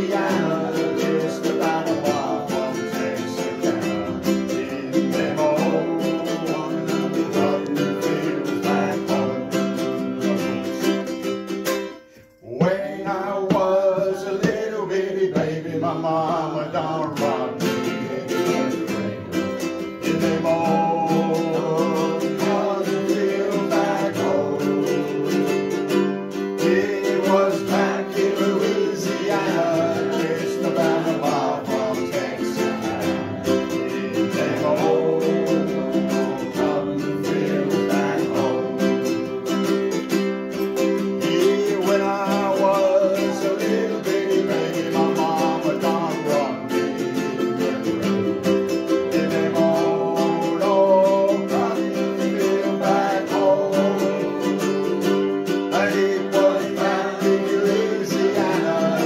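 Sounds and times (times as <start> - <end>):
ukuleles strumming: 0.0 - 59.0.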